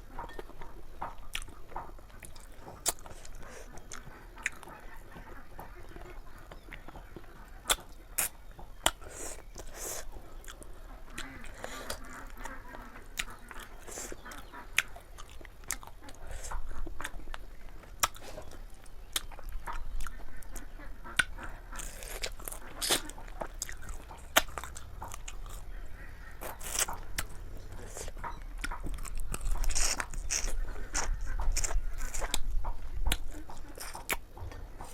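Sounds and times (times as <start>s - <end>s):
person chewing food: 0.0s - 34.9s.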